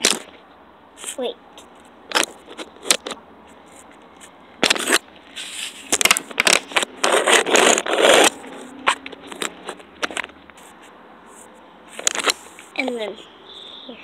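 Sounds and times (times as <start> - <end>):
plastic items handling noises: 1.0 - 10.8, 11.4 - 13.0
scraping rustle: 1.0 - 13.2.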